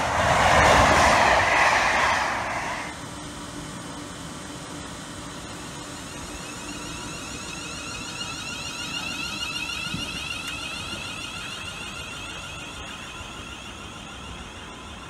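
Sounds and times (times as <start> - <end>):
electric train whine: 0.0 - 15.0.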